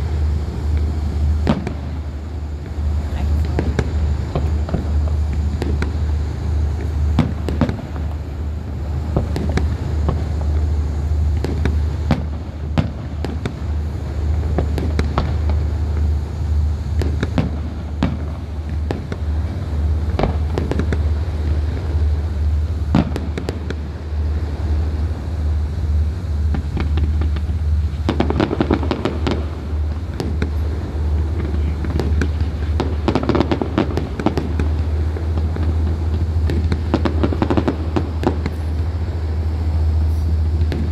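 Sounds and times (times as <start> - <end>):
fireworks bangs: 0.0 - 25.4, 26.4 - 40.9
fireworks crackling: 0.0 - 40.9
steady low hum: 0.0 - 40.9.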